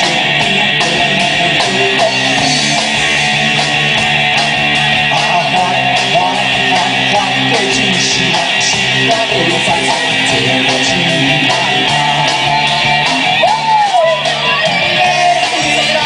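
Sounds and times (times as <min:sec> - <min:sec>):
bending guitar melody line: 0:00.0 - 0:16.0
live rock band: 0:00.0 - 0:16.0.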